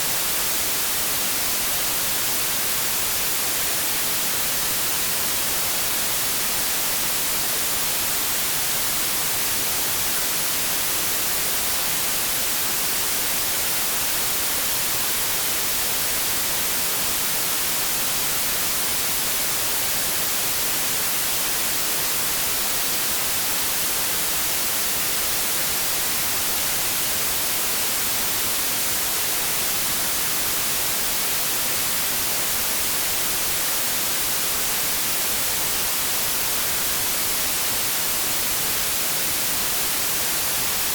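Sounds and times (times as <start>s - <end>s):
white noise static hiss: 0.0s - 40.9s.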